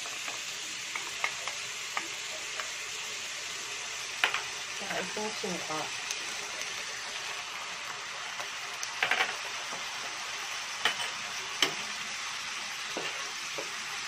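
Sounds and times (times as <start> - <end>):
vegetables sizzling in a frying pan: 0.0 - 14.0.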